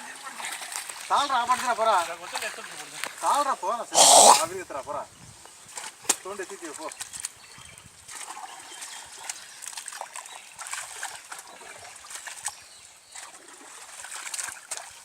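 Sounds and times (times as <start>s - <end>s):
muddy water splashing and trickling: 0.0s - 4.5s, 5.6s - 15.0s.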